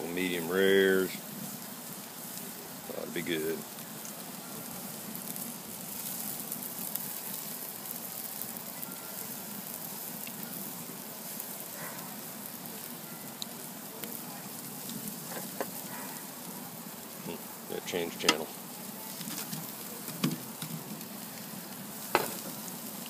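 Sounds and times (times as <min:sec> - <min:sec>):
burning logs crackling: 0:00.0 - 0:23.0
steaks sizzling on a grill: 0:00.0 - 0:23.0.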